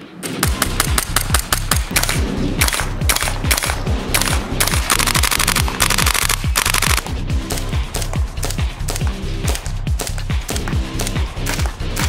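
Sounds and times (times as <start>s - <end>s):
airsoft gun firing bursts: 0.3s - 12.0s
music with deep beat: 0.4s - 12.0s.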